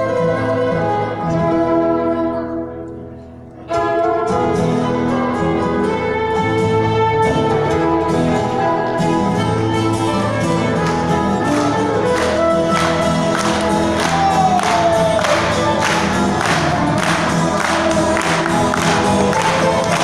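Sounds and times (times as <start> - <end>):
acoustic guitar: 0.0 - 20.0
violin: 0.0 - 20.0.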